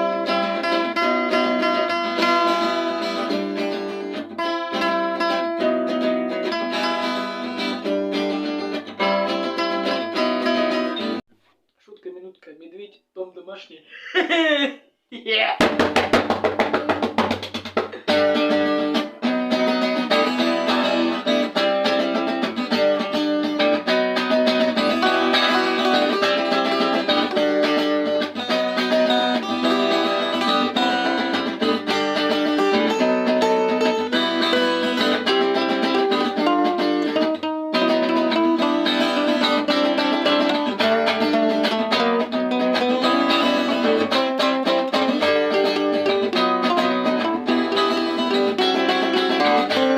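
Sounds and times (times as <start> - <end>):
acoustic guitar music: 0.0 - 11.3, 15.6 - 49.9.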